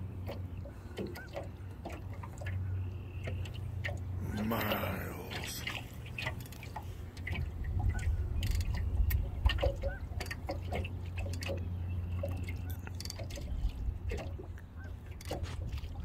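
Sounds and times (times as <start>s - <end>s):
small waves lapping against hull: 0.0s - 16.0s.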